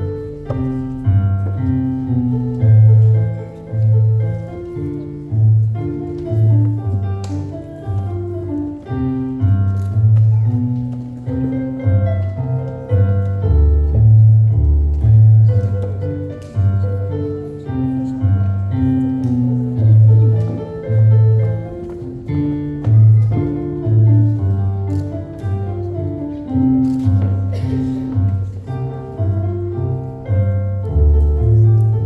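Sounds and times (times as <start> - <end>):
lively solo piano: 0.0 - 32.0.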